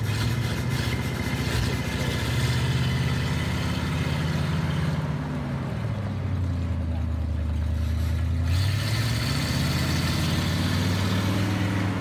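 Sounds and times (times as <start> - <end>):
truck engine running at low speed: 0.0 - 12.0.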